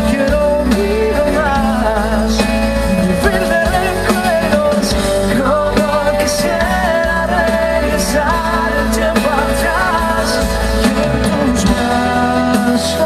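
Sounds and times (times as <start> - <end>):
live band music: 0.0 - 13.0
steady bass: 0.0 - 13.0.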